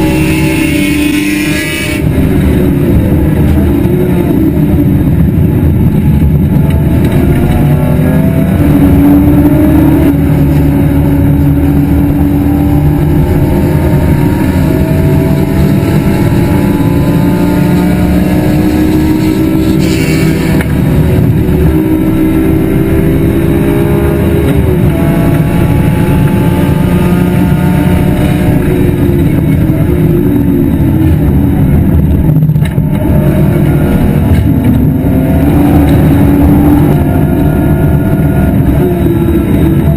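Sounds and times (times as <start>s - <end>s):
race car engine accelerating: 0.0s - 39.9s
road and wind noise: 0.0s - 39.9s.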